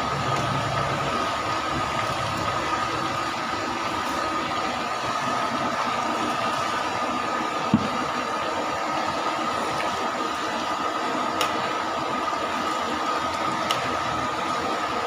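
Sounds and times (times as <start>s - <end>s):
oil sizzling: 0.0s - 15.0s.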